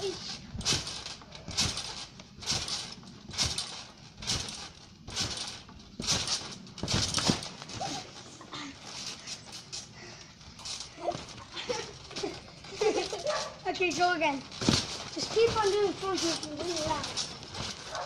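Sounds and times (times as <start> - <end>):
trampoline mat thumping: 0.0 - 18.0
trampoline springs hissing: 0.0 - 18.0.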